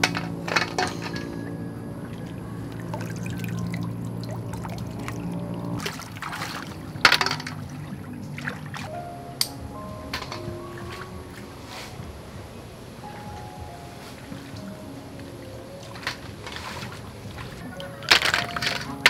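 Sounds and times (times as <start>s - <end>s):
pond water splashing: 0.0s - 19.0s
soft background music: 0.0s - 19.0s.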